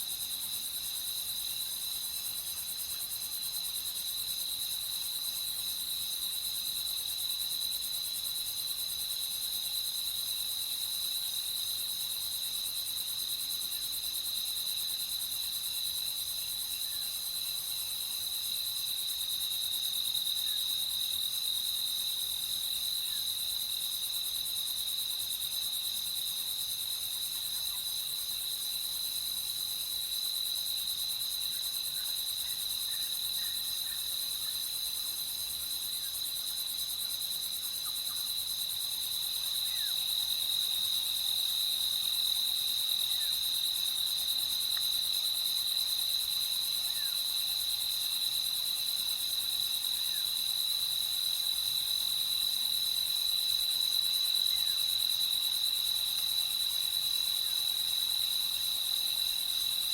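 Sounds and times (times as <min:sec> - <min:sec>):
faint distant cricket chirps: 0:00.0 - 0:59.9.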